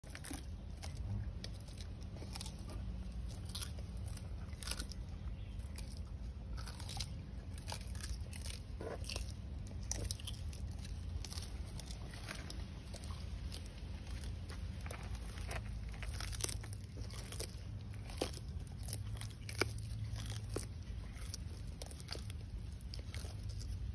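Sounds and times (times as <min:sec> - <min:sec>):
tortoises crunching leaves: 0:00.0 - 0:23.9.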